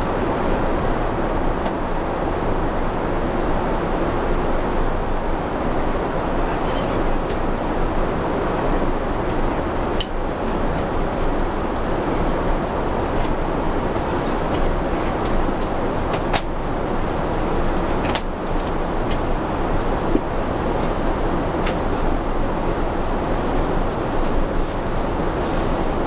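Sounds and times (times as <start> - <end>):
airliner cabin noise: 0.0 - 26.0.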